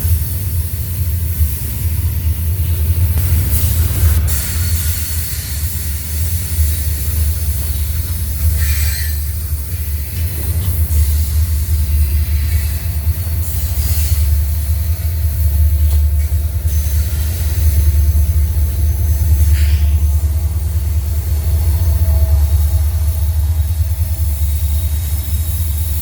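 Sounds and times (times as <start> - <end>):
train rumbling past: 0.0 - 26.0
train wheel squeals: 2.8 - 26.0.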